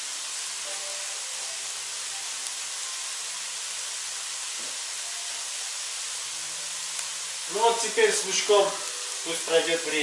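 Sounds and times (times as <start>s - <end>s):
meat and onion sizzling: 0.0s - 10.0s.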